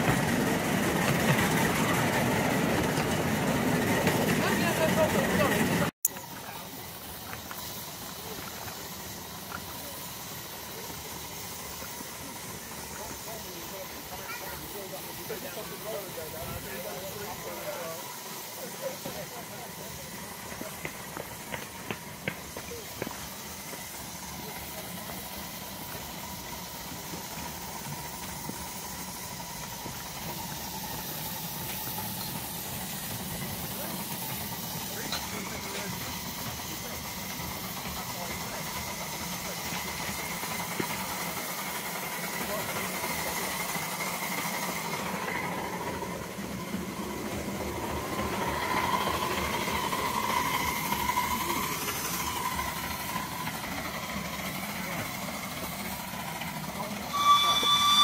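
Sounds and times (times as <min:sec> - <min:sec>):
miniature steam locomotive rumbling: 0:00.0 - 0:58.0
faint steam hiss: 0:06.1 - 0:58.0.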